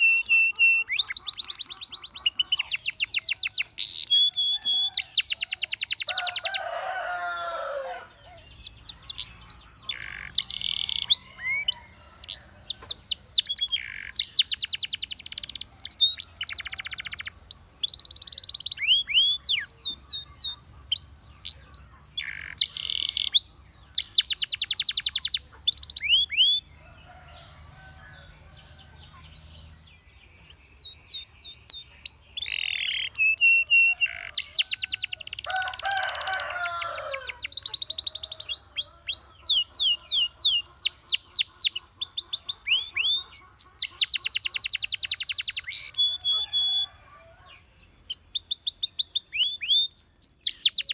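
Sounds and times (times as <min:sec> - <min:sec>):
canary singing: 0:00.0 - 0:50.9.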